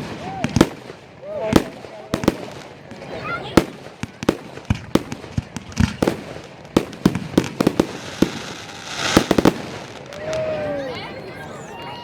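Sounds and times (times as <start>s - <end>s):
fireworks bangs and pops: 0.0s - 11.1s.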